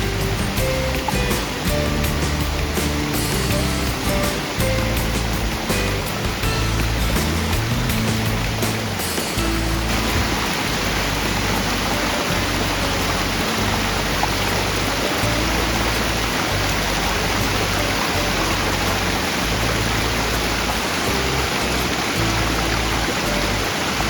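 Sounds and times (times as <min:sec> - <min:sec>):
background music with bass: 0:00.0 - 0:24.0
mountain stream rushing: 0:00.0 - 0:24.0.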